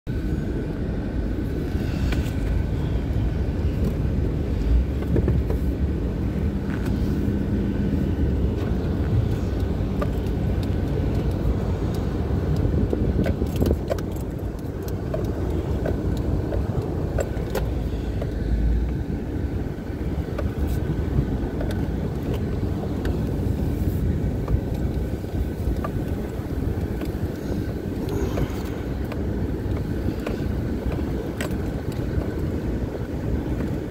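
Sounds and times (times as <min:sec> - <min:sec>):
vehicle engine and tyres rumbling: 0:00.0 - 0:33.9
vehicle body rattling over bumps: 0:00.8 - 0:33.9.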